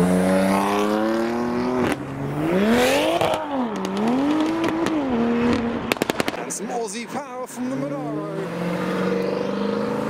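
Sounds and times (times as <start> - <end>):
car engine accelerating hard: 0.0 - 6.4, 7.1 - 10.0.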